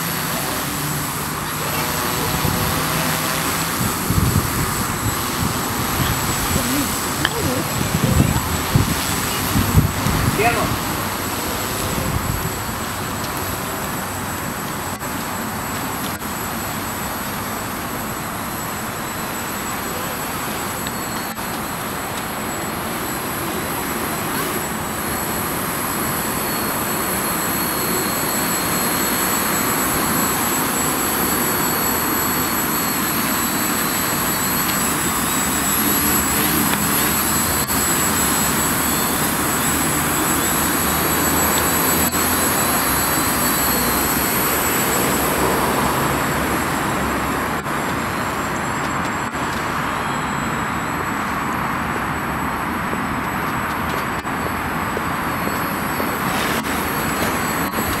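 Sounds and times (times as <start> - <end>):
quadcopter propellers whirring: 0.0 - 58.0
thin high whine: 0.0 - 58.0.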